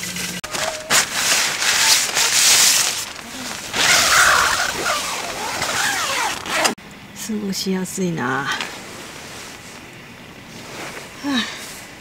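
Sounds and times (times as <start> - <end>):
nylon fabric rustling: 0.4 - 6.8, 8.4 - 11.7.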